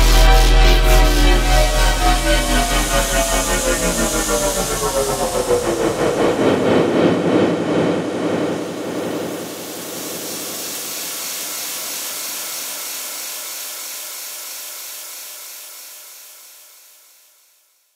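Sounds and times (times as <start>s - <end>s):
hiss-like noise wash: 1.8s - 17.9s.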